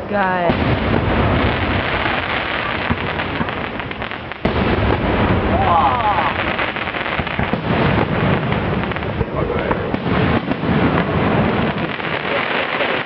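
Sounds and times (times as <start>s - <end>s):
fireworks crackling and booming: 0.0s - 13.0s.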